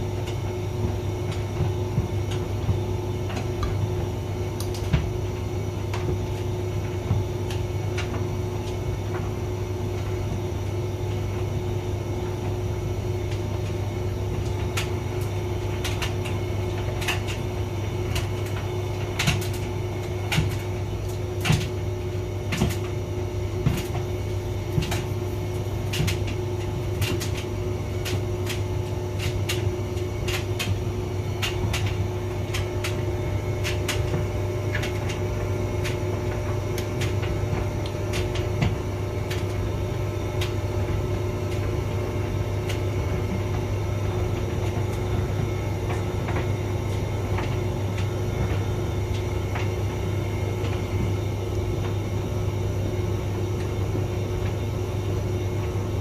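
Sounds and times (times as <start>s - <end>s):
dryer clicks and knocks: 0.0s - 52.1s
tumble dryer humming: 0.0s - 56.0s.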